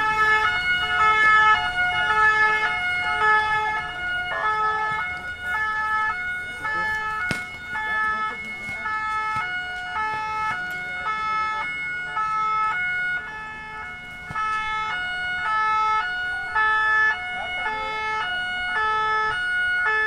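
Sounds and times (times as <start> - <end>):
two-tone police siren: 0.0 - 20.0.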